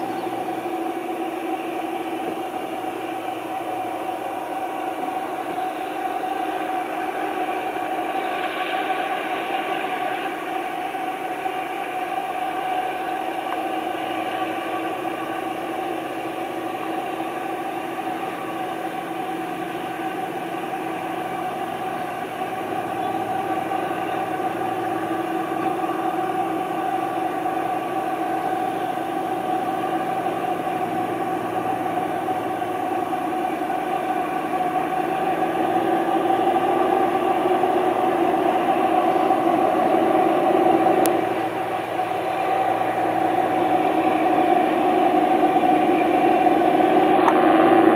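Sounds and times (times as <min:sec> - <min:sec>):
diesel locomotive engine humming: 0:00.0 - 0:47.9.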